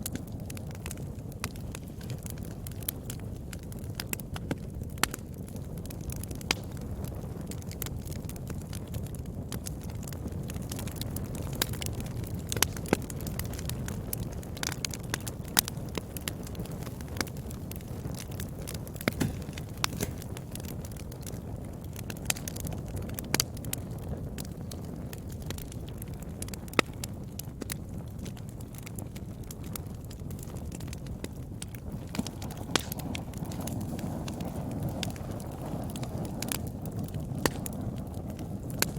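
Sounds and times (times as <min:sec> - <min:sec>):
fire crackling and popping: 0:00.0 - 0:38.9
fire rumbling: 0:00.0 - 0:38.9.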